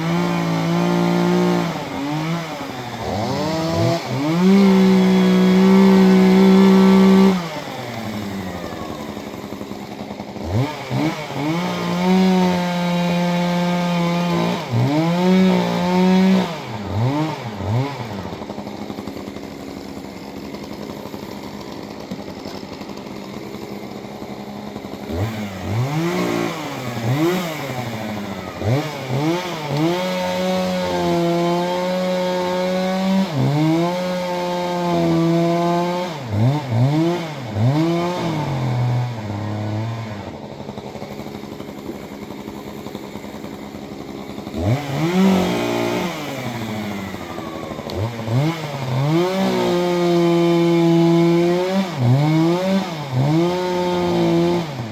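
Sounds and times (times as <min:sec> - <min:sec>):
chainsaw revving and idling: 0:00.0 - 0:54.9.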